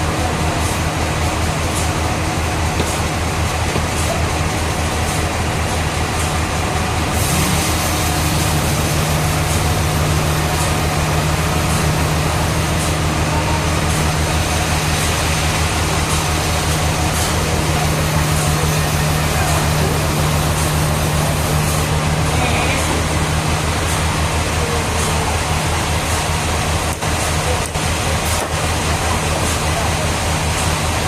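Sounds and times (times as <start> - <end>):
sawmill machinery humming: 0.0 - 31.0.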